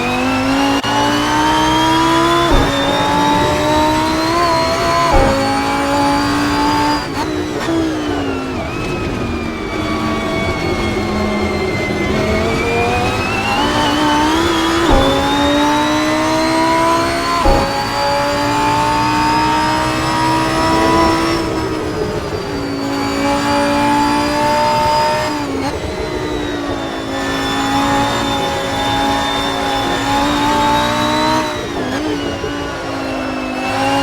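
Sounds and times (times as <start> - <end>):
car engine accelerating hard: 0.0 - 34.0.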